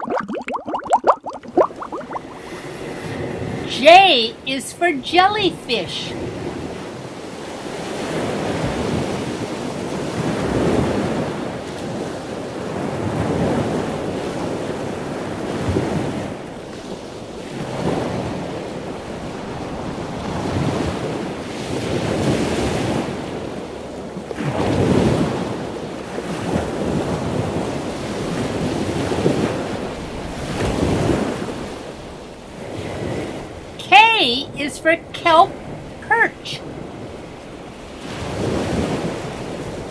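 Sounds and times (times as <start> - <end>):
ocean waves: 0.0 - 39.9.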